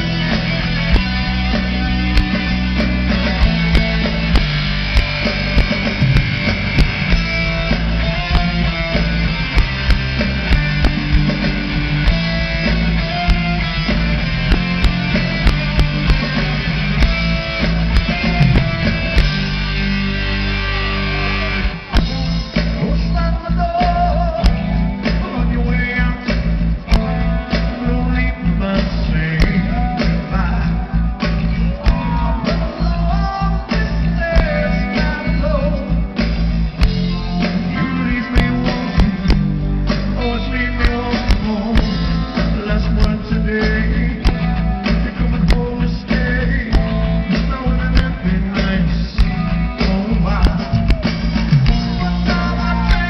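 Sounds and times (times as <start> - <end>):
drum kit beat: 0.0 - 53.0
electric guitars: 0.0 - 53.0
live rock band: 0.0 - 53.0.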